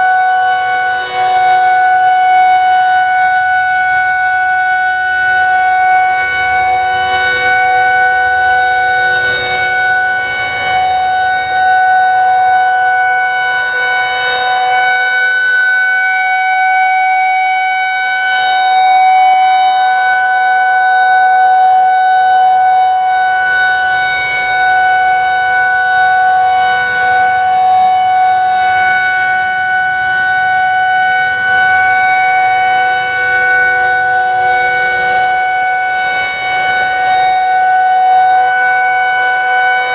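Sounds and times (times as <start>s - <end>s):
warning siren dual-tone chord: 0.0s - 39.9s.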